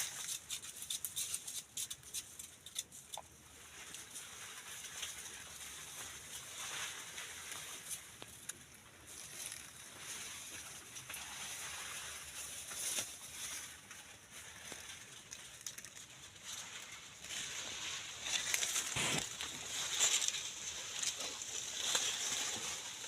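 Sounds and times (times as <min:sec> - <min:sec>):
maize leaves and stalks rustling: 0:00.0 - 0:23.0
small crackles: 0:00.0 - 0:23.0.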